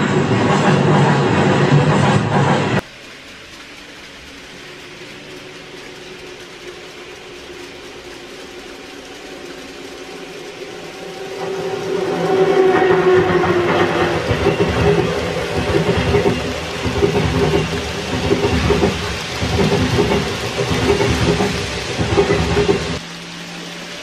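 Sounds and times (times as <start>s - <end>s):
wheels clicking over rail joints: 1.8s - 24.0s
model locomotive motor humming: 2.8s - 24.0s.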